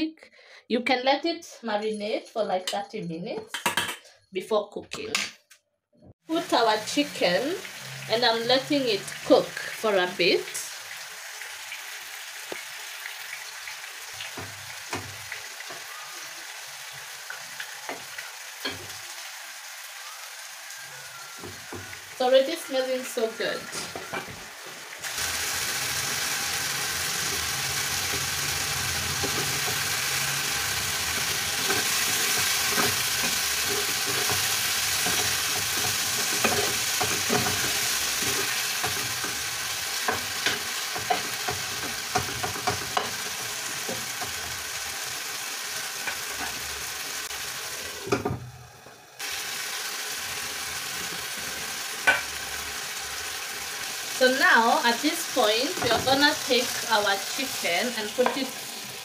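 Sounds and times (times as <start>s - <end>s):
chicken sizzling in a frying pan: 6.2s - 59.0s.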